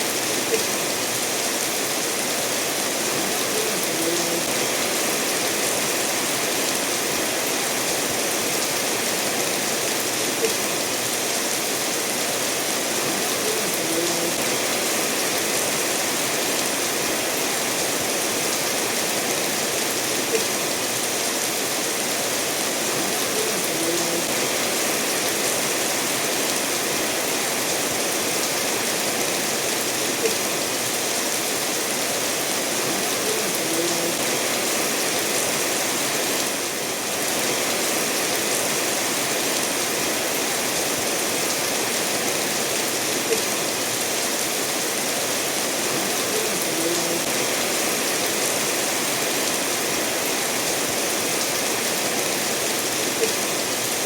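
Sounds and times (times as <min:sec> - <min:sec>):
steady rainfall: 0:00.0 - 0:54.0
stream running over stones: 0:00.0 - 0:54.0.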